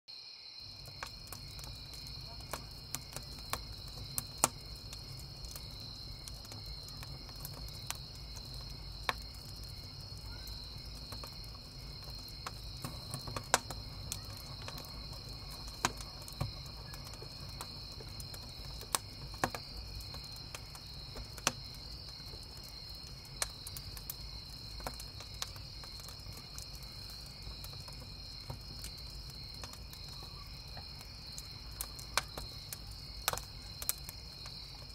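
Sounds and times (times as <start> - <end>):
crickets chirping: 0.1 - 34.9
campfire crackling and popping: 0.6 - 34.9.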